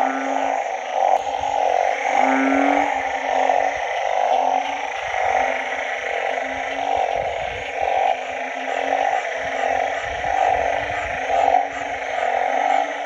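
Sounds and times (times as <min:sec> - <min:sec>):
frogs chorus: 0:00.0 - 0:13.0
low drawn-out frog call: 0:00.0 - 0:13.0.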